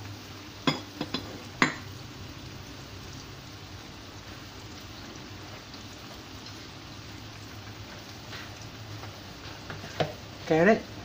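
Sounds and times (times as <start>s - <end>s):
broth bubbling in a wok: 0.0s - 11.0s.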